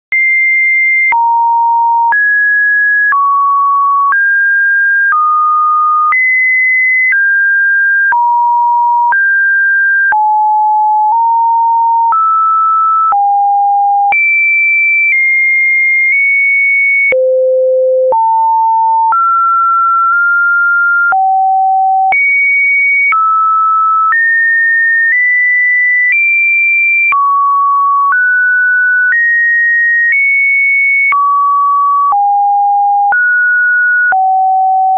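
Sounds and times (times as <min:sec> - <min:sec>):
electronic test tone beeps: 0:00.1 - 0:09.4, 0:10.0 - 0:24.4, 0:29.0 - 0:34.9.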